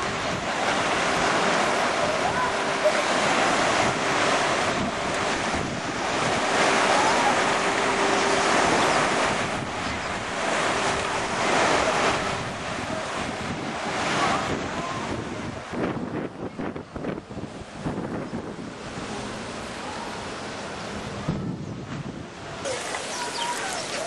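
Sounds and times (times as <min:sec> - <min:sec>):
waves breaking in a pool: 0:00.0 - 0:24.0.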